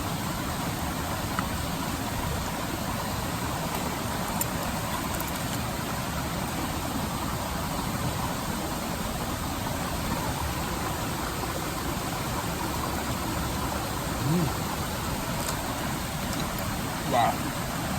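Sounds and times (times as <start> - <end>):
river water flowing: 0.0 - 17.9.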